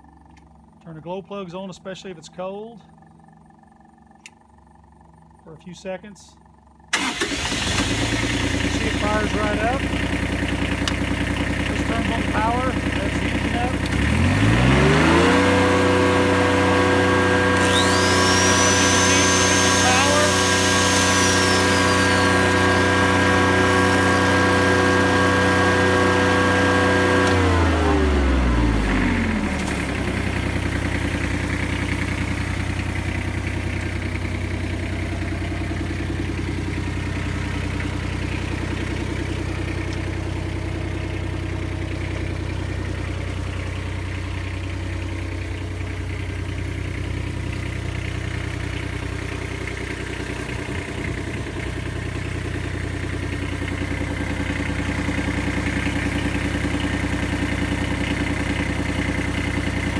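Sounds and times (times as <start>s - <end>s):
diesel generator running: 0.0s - 59.9s.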